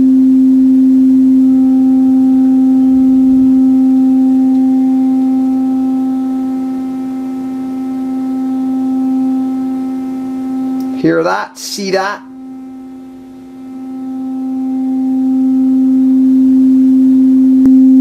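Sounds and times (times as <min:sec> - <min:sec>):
clipped synthesizer sine tone: 0:00.0 - 0:18.0.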